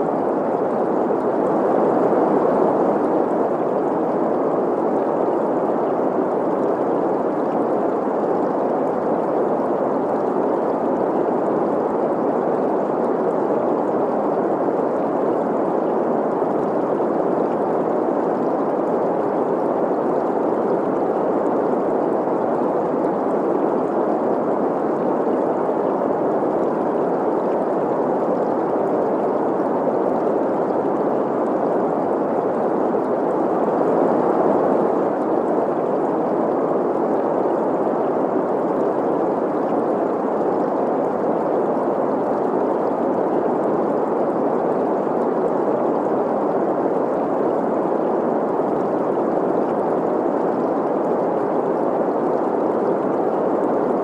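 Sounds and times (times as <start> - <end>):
stream running water: 0.0 - 54.0.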